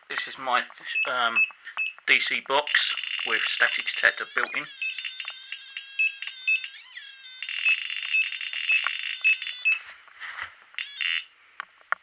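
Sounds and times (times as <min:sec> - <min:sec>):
crackling static: 0:00.0 - 0:06.8, 0:07.4 - 0:12.0.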